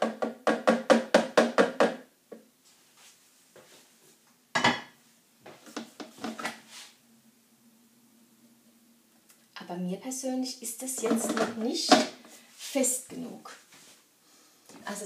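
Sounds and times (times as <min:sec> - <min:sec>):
faint steady hum: 0:00.1 - 0:15.0.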